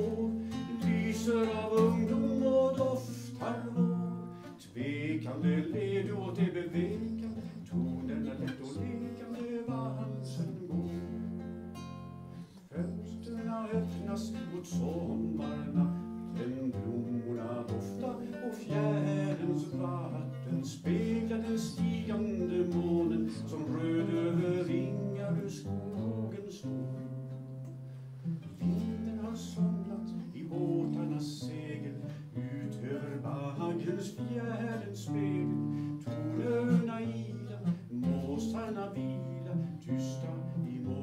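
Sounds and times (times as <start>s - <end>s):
solo acoustic guitar: 0.0s - 41.0s.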